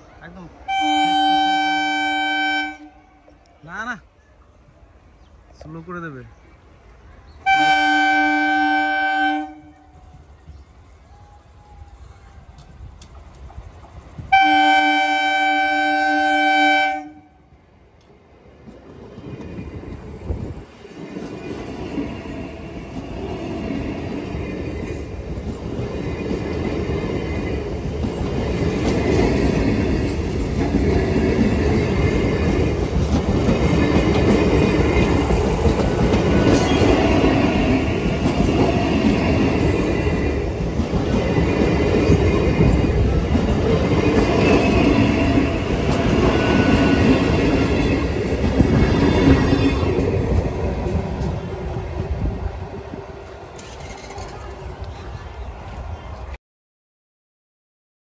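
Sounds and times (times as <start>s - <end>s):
train wheels rumbling on rails: 6.8s - 16.8s, 18.0s - 56.4s.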